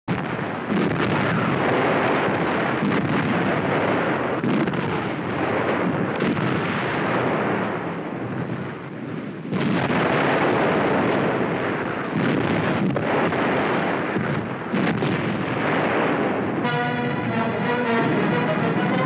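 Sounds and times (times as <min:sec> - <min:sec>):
heavy artillery gunfire: 0:00.1 - 0:19.0
film soundtrack hiss: 0:00.2 - 0:19.0.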